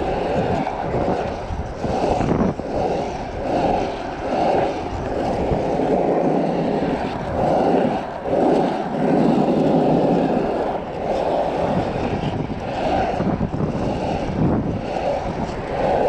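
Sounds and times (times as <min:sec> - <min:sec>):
wheels rolling on asphalt: 0:00.0 - 0:16.0
wind on microphone: 0:00.0 - 0:16.0.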